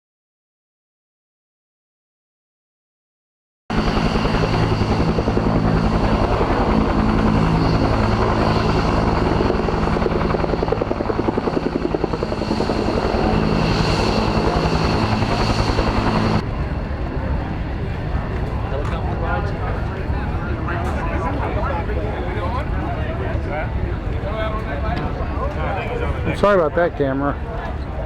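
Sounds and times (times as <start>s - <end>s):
helicopter rotor chopping: 3.7s - 28.0s
low turbine drone: 3.7s - 28.0s.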